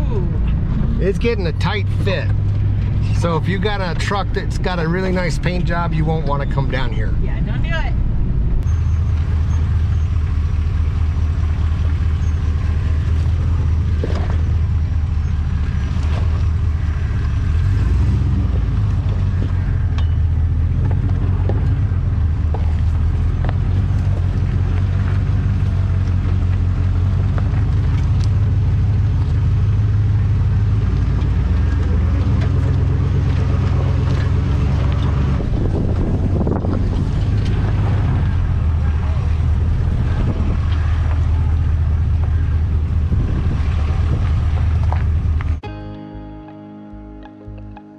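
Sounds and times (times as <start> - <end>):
truck engine droning: 0.0 - 47.9.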